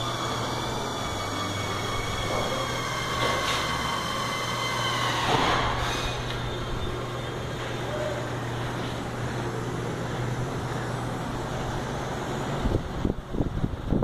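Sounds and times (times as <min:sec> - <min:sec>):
workshop hum and rushing: 0:00.0 - 0:14.0.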